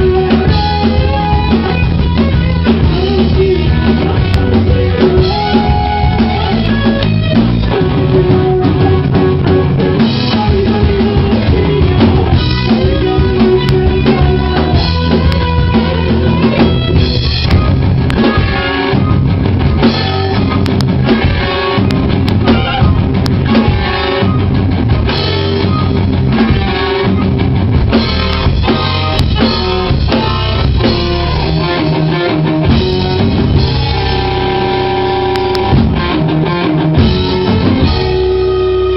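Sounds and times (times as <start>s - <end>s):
guitar: 0.0s - 38.9s
rock band playing loud: 0.0s - 38.9s.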